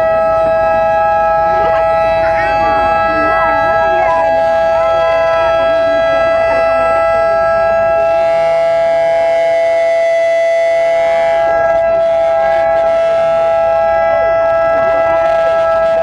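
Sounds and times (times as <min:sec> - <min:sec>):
civil defence siren steady tone: 0:00.0 - 0:16.0.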